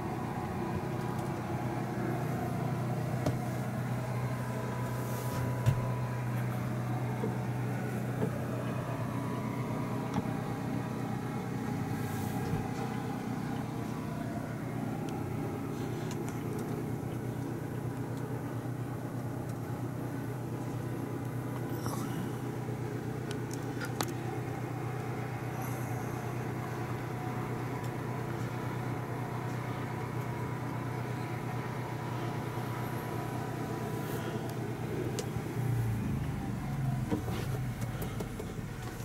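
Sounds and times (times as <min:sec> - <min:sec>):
low mechanical hum: 0:00.0 - 0:39.0.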